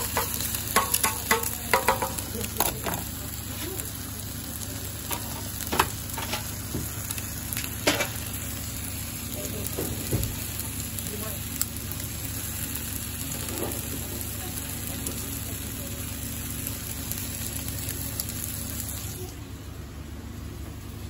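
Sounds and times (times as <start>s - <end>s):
food sizzling on a griddle: 0.0s - 19.7s.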